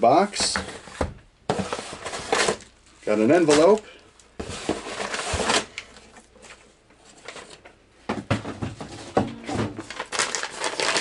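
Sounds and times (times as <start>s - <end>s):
paper and cardboard rustling: 0.0s - 7.8s, 8.4s - 11.0s.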